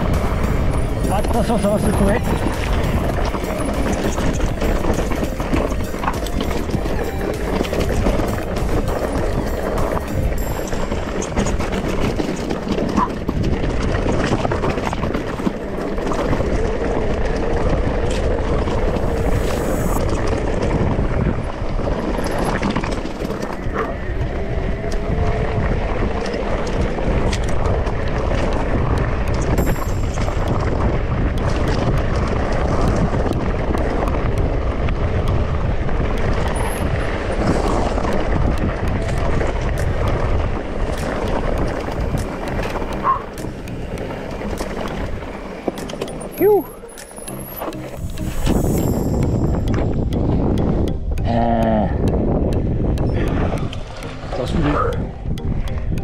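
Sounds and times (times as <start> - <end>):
small clicks and rattles: 0.0 - 19.0, 21.7 - 51.2
bike tyres rolling on rough trail: 0.0 - 56.0
wind on microphone: 0.0 - 56.0.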